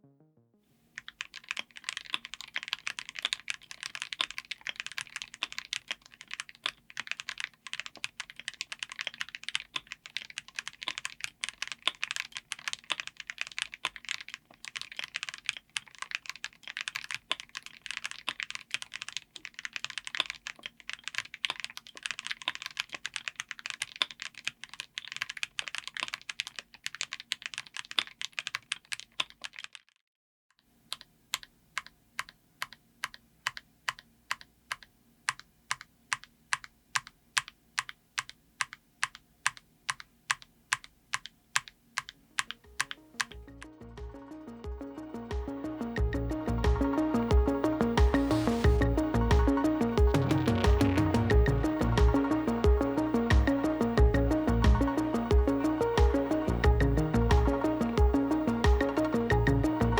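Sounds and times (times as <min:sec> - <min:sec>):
mechanical keyboard typing: 0:01.0 - 0:29.8, 0:30.9 - 0:59.9.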